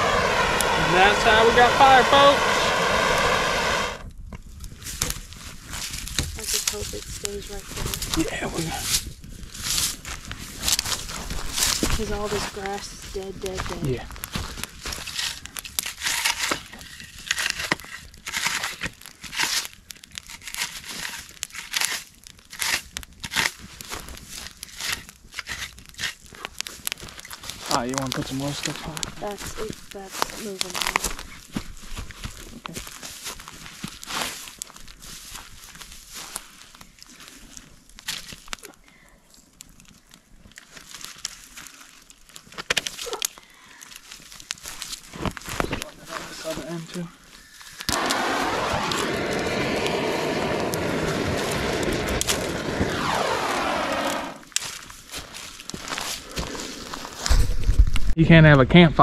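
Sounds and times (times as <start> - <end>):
campfire crackling and popping: 0.0 - 58.6.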